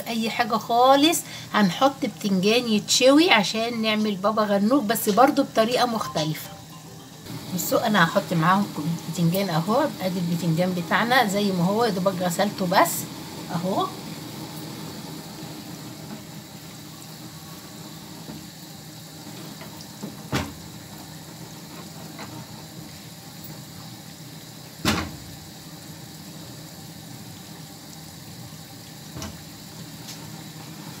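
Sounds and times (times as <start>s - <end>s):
potatoes sizzling in hot oil: 0.0s - 31.0s.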